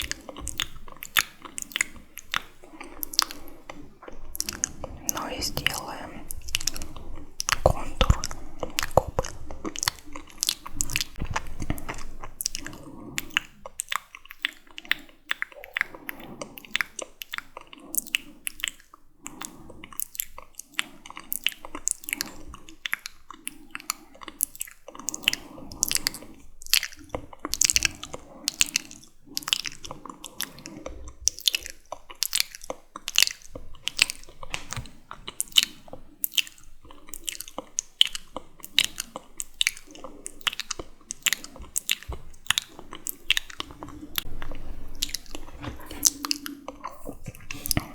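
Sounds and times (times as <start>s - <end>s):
wet mouth clicks and smacks: 0.0s - 47.9s.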